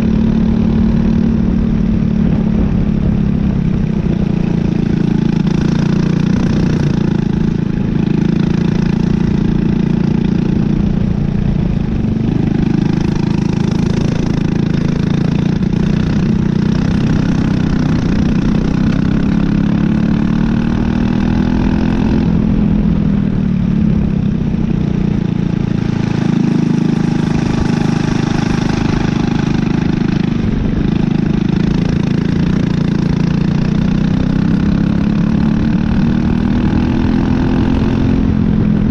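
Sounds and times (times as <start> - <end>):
kart engine at speed: 0.0 - 38.9.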